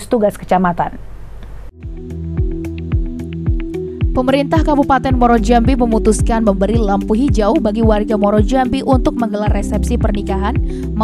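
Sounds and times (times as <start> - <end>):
background music with drum beat: 1.9 - 10.8.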